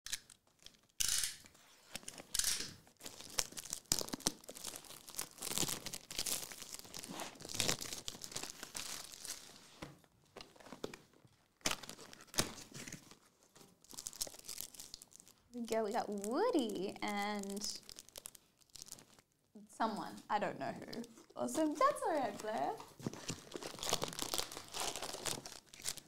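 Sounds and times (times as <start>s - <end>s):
shrink wrap crinkling and tearing: 0.1s - 9.8s, 10.4s - 19.4s, 20.9s - 26.0s.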